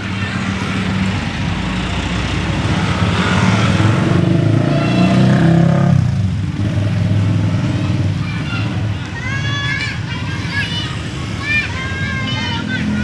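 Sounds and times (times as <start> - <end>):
motorcycles passing: 0.0 - 13.0.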